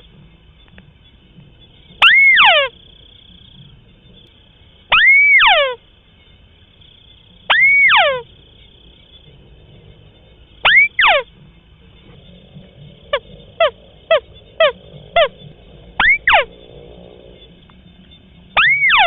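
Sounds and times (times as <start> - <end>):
crake calling: 1.7 - 6.4, 7.1 - 9.2, 10.5 - 19.0.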